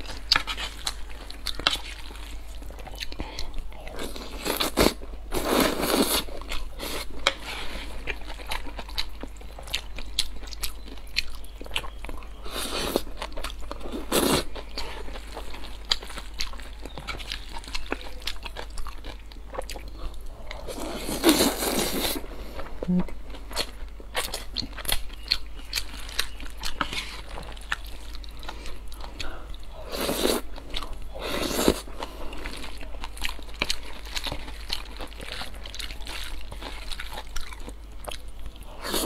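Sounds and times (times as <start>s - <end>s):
wet chewing with mouth clicks: 0.0s - 39.0s.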